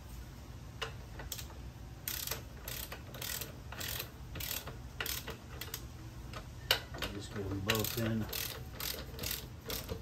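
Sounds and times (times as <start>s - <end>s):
ratchet wrench clicking: 0.8s - 5.8s, 6.8s - 10.0s.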